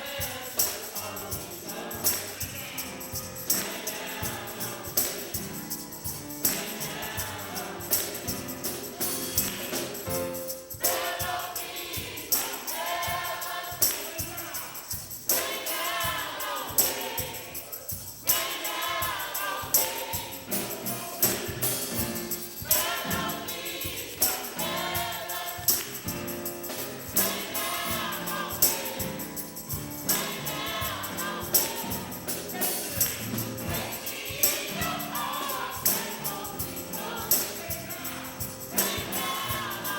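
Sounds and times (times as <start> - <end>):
choir singing: 0.0 - 39.9
tambourine: 0.0 - 39.9.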